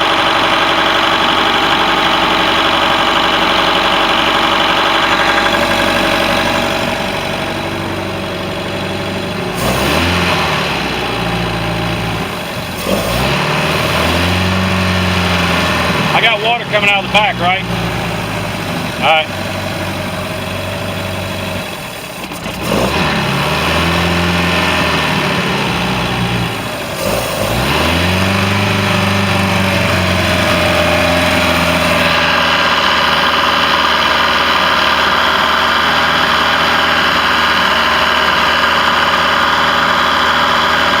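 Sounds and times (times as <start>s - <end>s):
boat engine revving: 0.0s - 41.0s.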